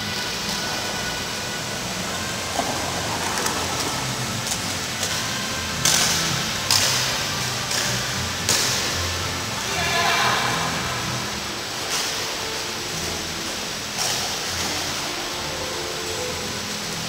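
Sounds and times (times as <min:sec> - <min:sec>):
faint music: 0:00.0 - 0:17.0
roller-skate wheels on concrete: 0:00.0 - 0:17.0.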